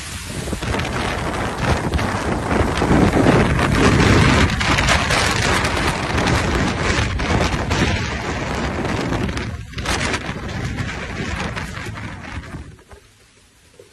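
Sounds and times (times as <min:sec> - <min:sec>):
heavy rain: 0:00.0 - 0:13.0
wind gusting on microphone: 0:00.0 - 0:13.0.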